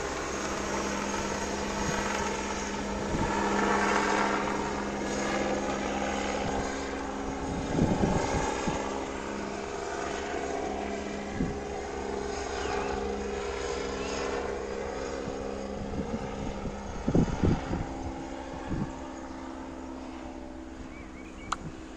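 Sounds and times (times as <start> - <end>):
helicopter drone: 0.0 - 21.9.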